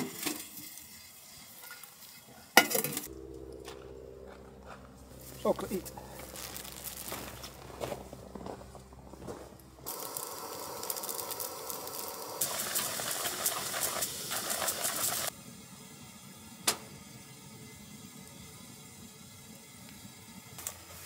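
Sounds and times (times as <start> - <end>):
camping stove burning hiss: 0.0 - 3.1, 5.2 - 21.0.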